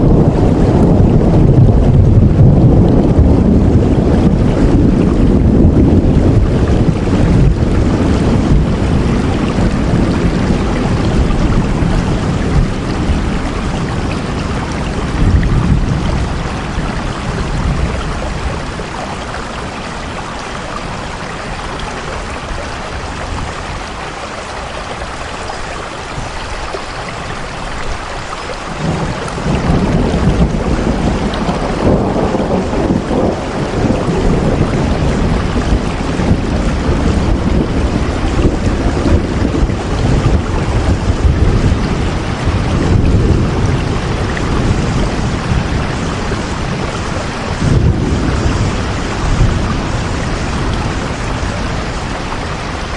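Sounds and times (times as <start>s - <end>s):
deep rumble: 0.0s - 23.6s, 28.7s - 52.9s
heavy rain: 0.0s - 52.9s.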